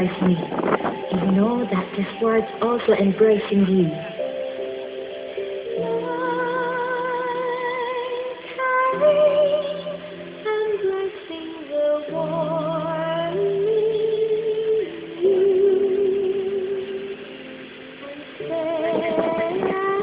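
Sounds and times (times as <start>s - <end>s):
woman singing with vibrato: 0.0s - 4.1s, 5.8s - 17.3s, 18.0s - 20.0s
low steady drone: 0.0s - 20.0s.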